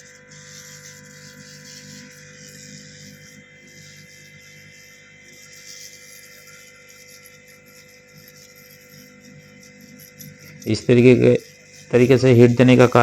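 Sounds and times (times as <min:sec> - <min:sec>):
hot-air tool humming and hissing: 0:00.0 - 0:13.0.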